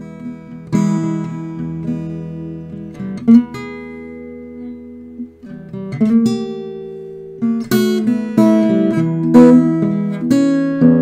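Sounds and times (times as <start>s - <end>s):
acoustic guitar playing slow blues: 0.0s - 11.0s.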